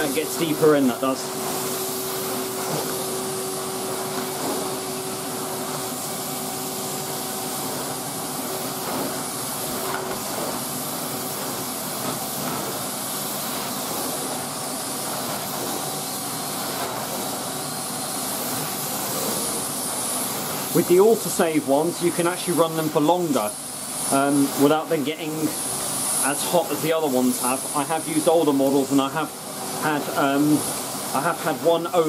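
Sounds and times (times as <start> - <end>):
vacuum cleaner on carpet: 0.0 - 32.0.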